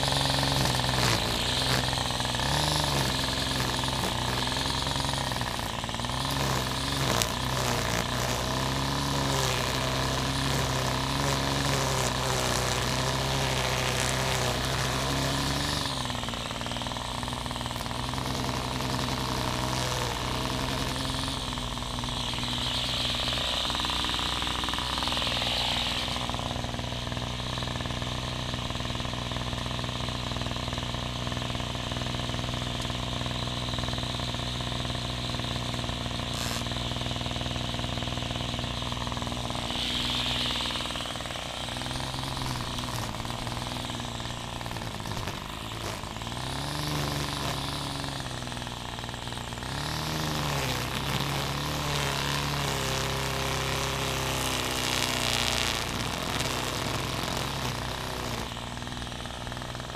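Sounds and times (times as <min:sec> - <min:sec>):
string trimmer engine running: 0:00.0 - 0:59.9
trimmer line cutting grass: 0:00.0 - 0:59.9.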